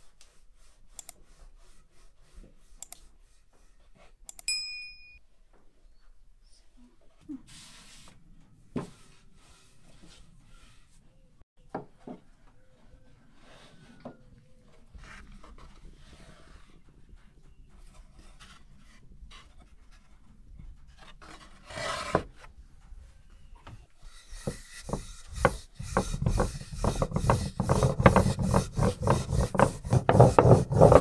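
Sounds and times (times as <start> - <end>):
rubbing and scraping on wood: 0.0 - 4.2, 7.5 - 11.3, 12.0 - 31.0.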